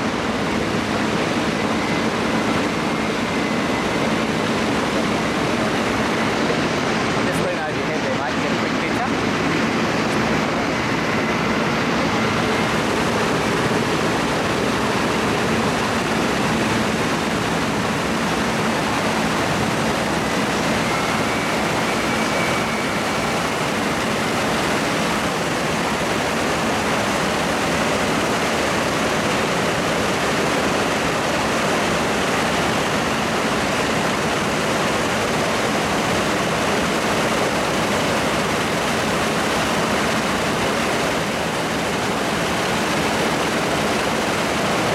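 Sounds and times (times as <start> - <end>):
propeller engines running: 0.0 - 44.9
steady low hum: 0.0 - 44.9.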